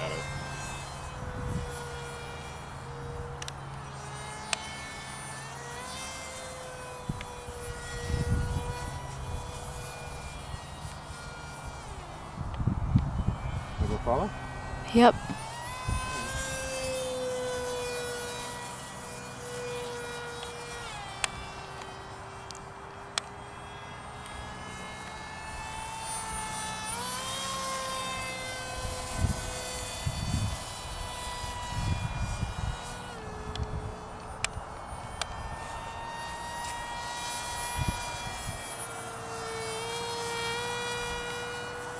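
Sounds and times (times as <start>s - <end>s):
electric motor and propeller whine: 0.0s - 41.9s.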